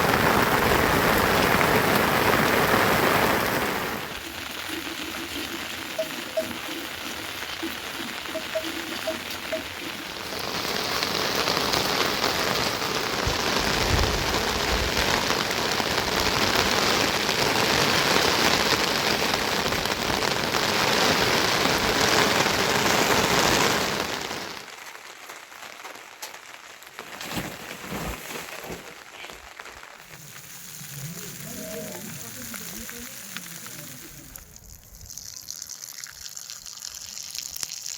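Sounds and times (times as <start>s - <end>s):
heavy rain falling: 0.0s - 34.6s.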